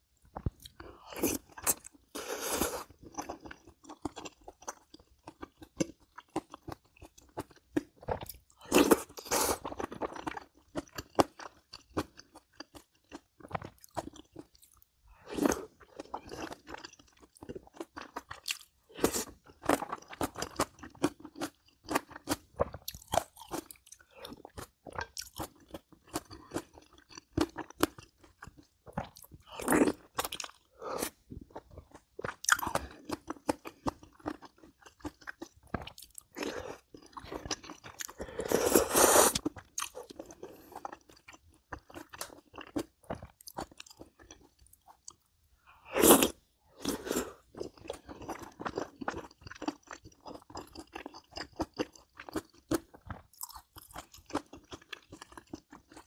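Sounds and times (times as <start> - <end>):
person chewing and crunching: 0.2 - 56.0.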